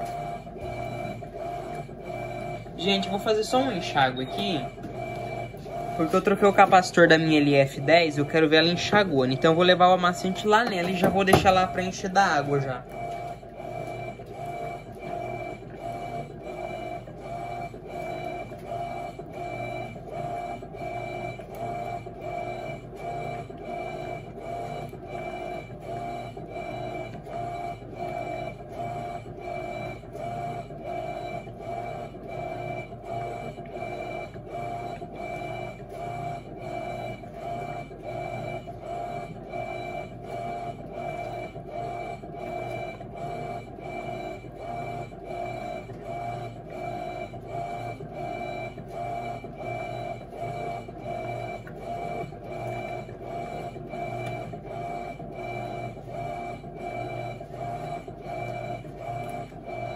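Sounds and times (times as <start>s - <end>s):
washing machine agitating: 0.0s - 59.9s.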